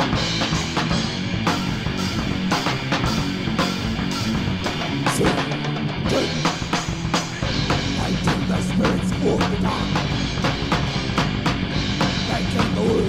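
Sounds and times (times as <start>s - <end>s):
rock music with drums and guitar: 0.0s - 13.0s.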